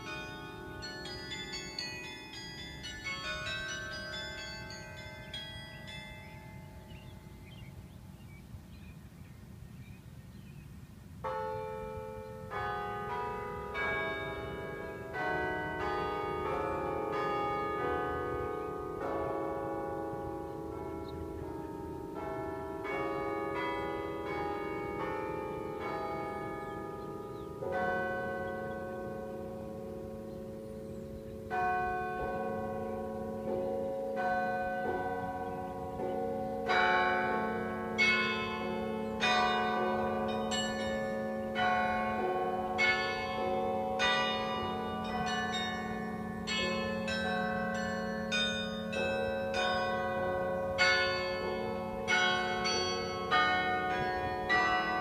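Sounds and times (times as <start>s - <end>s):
carillon bells melody: 0.0s - 7.5s, 11.3s - 55.0s.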